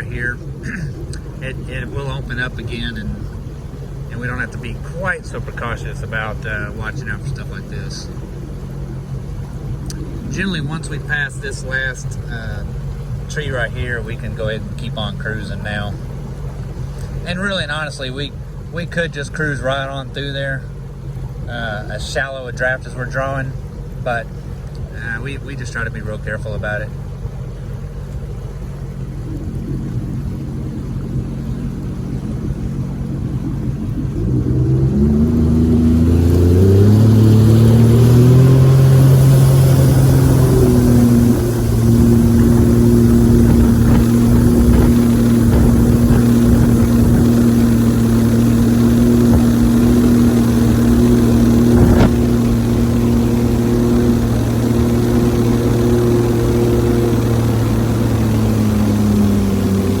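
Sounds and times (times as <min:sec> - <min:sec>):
jet boat engine throttling up: 0:00.0 - 1:00.0.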